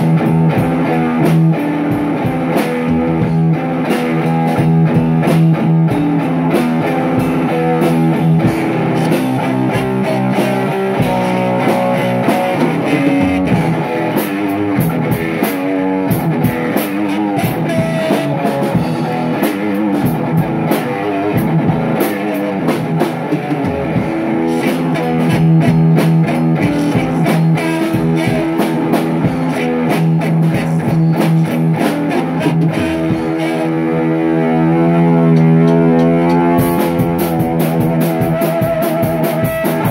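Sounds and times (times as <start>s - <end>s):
steady drum beat: 0.0s - 34.0s, 35.0s - 39.9s
rock guitar playing: 0.0s - 39.9s.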